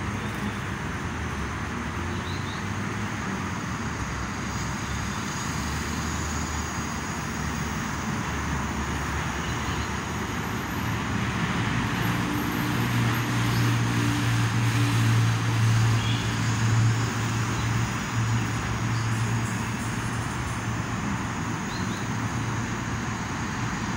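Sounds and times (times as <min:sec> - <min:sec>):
road traffic noise: 0:00.0 - 0:23.9.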